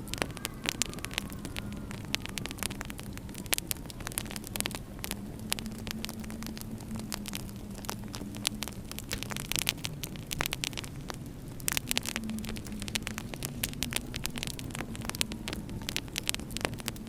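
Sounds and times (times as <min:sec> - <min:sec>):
low steady hum: 0:00.0 - 0:17.0
wood fire crackling: 0:00.0 - 0:17.0.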